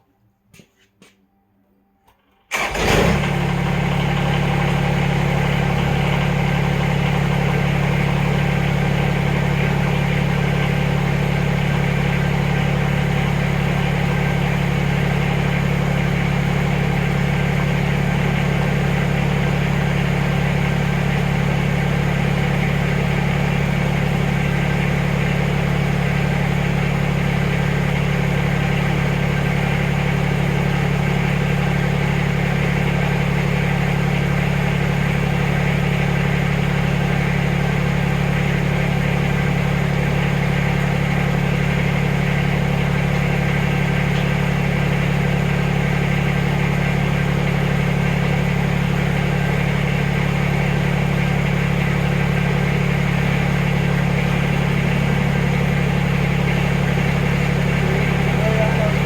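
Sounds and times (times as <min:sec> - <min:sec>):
backhoe engine running: 0:02.5 - 0:59.0.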